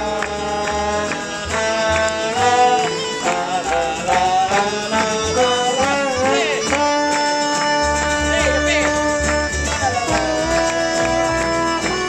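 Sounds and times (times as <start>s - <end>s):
acoustic folk band playing: 0.0s - 12.0s.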